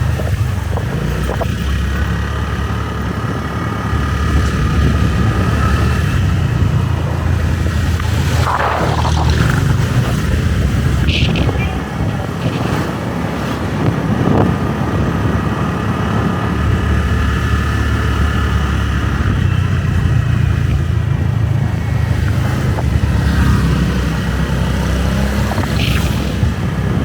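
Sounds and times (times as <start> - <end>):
motorbike engine running: 0.0 - 27.0.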